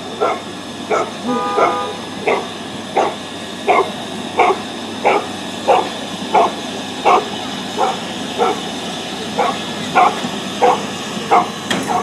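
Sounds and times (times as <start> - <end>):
dog barking: 0.2 - 8.6, 9.4 - 12.0.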